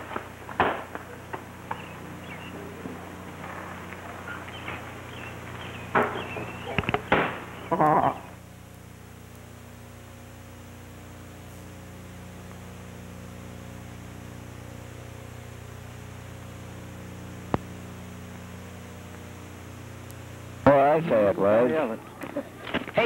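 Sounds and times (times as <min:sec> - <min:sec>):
electrical hum with hiss: 0:00.0 - 0:23.0.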